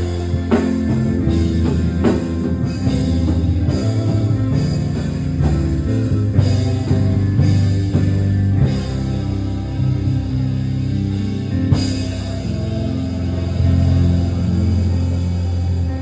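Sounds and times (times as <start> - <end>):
live band music: 0.0 - 16.0.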